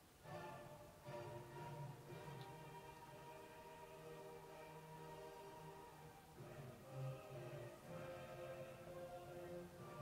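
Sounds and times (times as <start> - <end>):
faint music of slow held notes: 0.0 - 10.0.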